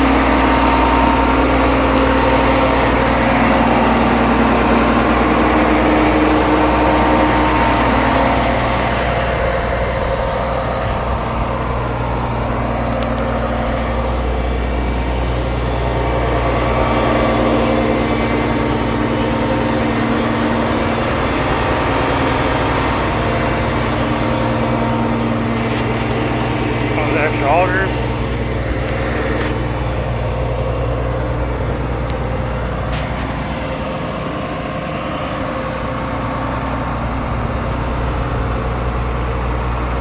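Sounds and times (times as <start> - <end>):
diesel engine idling: 0.0 - 40.0.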